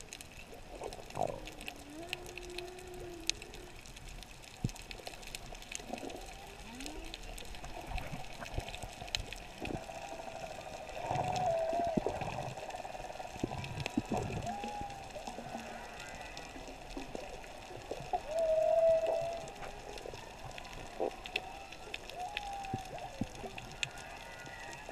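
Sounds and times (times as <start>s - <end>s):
muffled underwater hiss: 0.0s - 24.9s.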